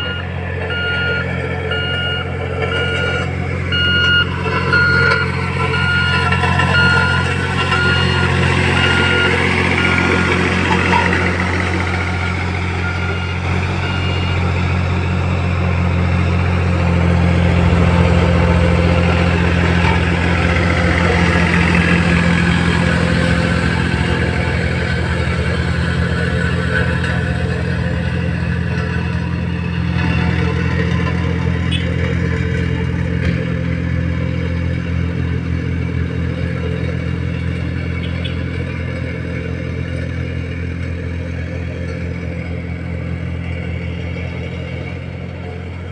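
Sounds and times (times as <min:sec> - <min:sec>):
motor engine humming: 0:00.0 - 0:45.9.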